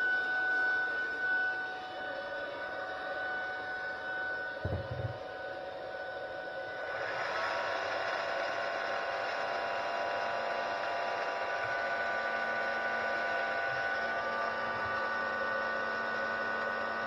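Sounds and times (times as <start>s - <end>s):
vacuum brush motor whining: 0.0s - 17.0s.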